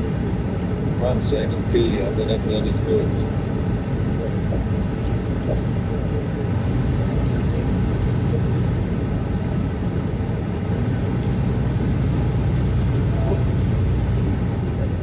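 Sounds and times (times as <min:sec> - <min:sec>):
diesel engine drone: 0:00.0 - 0:15.0
road noise: 0:00.0 - 0:15.0.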